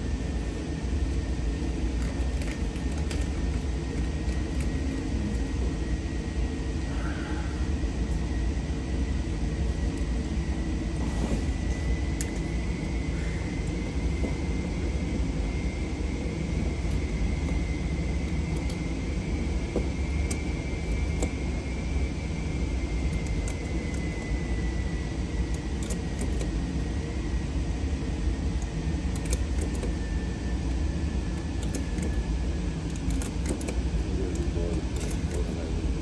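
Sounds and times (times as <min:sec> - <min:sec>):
faint high whine: 0:00.0 - 0:36.0
ventilation rumble: 0:00.0 - 0:36.0.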